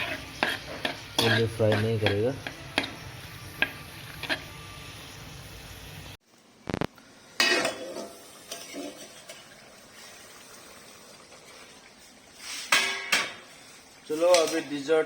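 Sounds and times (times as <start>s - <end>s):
faint sizzle: 0.0s - 15.0s.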